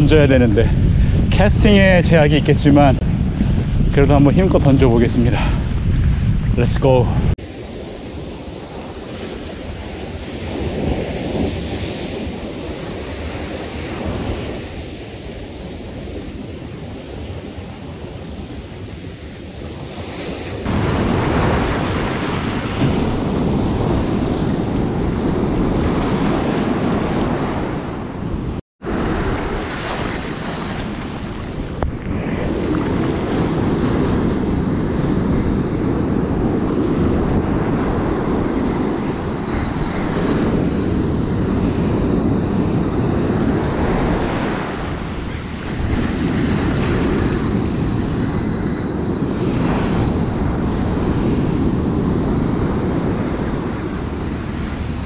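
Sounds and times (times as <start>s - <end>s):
wind on microphone: 0.0s - 55.0s
ocean surf breaking: 6.6s - 55.0s.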